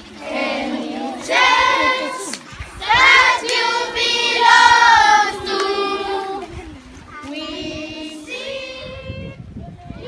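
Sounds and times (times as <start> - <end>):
voices singing long notes: 0.0 - 9.4.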